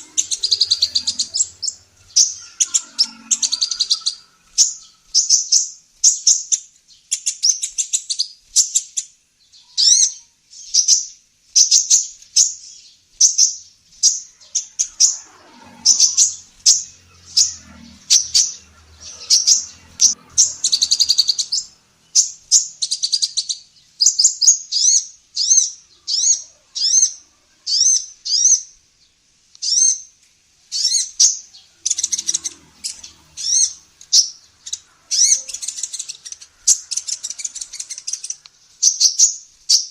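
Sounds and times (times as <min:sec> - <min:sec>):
bird chirping and trilling: 0:00.0 - 0:28.8, 0:29.6 - 0:30.1, 0:30.7 - 0:39.9.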